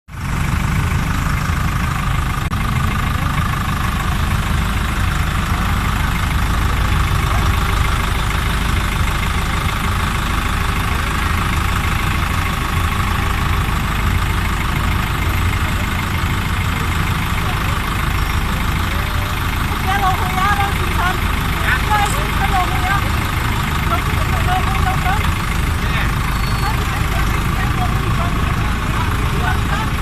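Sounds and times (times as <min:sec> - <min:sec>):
engine running steadily: 0:00.1 - 0:30.0.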